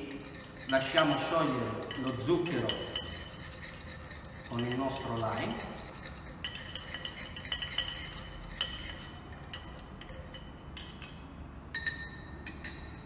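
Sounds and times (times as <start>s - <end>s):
bar spoon clinking in metal tin: 0.0s - 13.0s.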